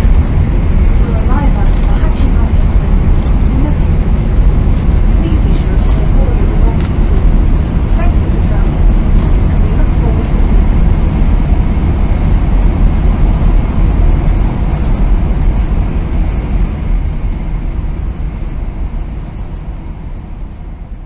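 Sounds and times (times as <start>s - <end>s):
train rumble inside carriage: 0.0s - 21.0s.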